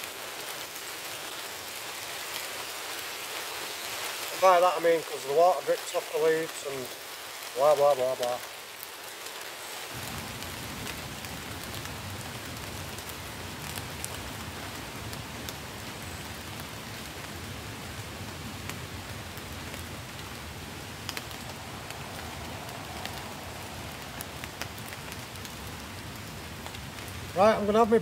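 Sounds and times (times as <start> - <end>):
rain falling on leaves: 0.0 - 28.0
water dripping off foliage: 0.0 - 28.0.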